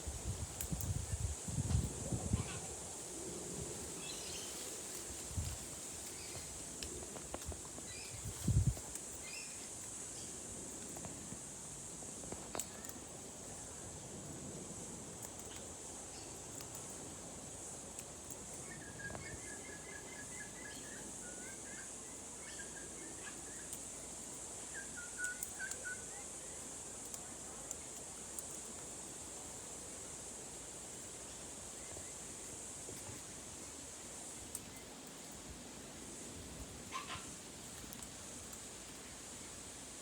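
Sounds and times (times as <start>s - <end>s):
steady high hiss: 0.0s - 40.0s.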